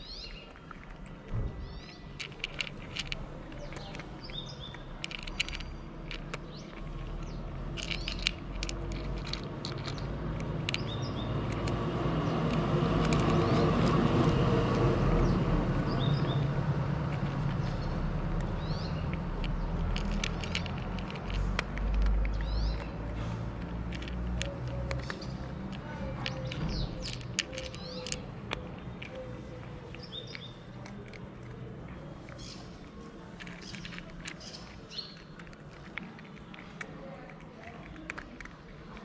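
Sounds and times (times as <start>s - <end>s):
cat crunching dry kibble: 0.0s - 39.0s
vehicle passing: 2.2s - 39.0s.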